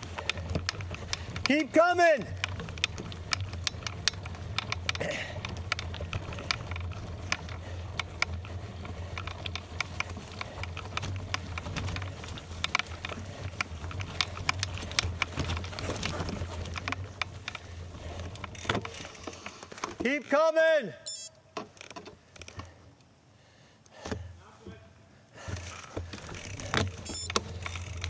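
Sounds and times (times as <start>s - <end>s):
bicycle tyres rolling over gravel: 0.0s - 20.3s, 25.4s - 28.0s.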